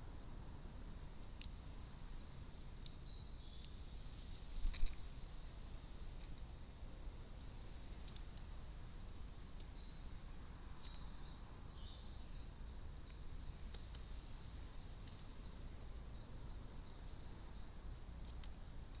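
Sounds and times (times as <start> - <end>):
faint birds chirping: 0.0 - 19.0
low outdoor rumble: 0.0 - 19.0.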